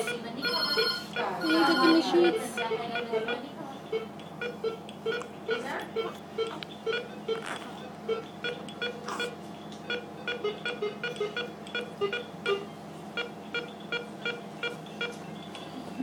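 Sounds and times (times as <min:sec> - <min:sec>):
monitor beeping: 0:00.0 - 0:15.6
equipment hum: 0:00.0 - 0:16.0.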